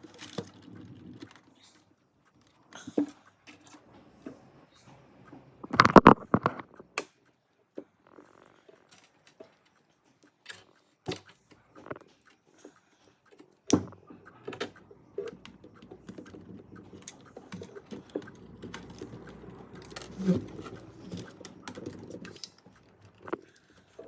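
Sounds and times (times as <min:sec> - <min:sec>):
small hard parts clicking: 0:00.0 - 0:03.9, 0:05.3 - 0:24.0.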